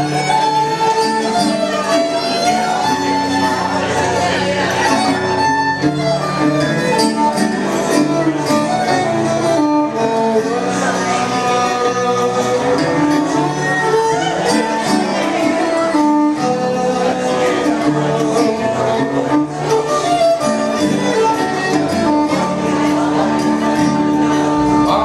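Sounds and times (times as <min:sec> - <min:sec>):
fiddle melody: 0:00.0 - 0:25.0
guitar: 0:00.0 - 0:25.0.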